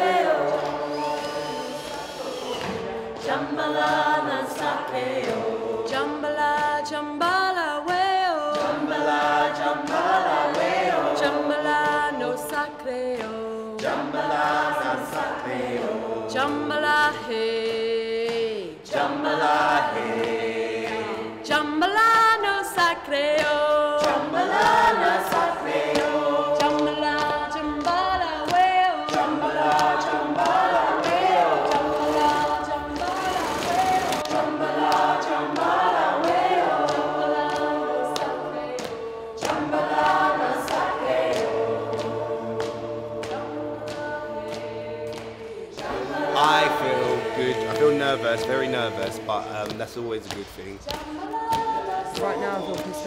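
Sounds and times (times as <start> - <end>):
choir singing a chant: 0.0 - 53.0.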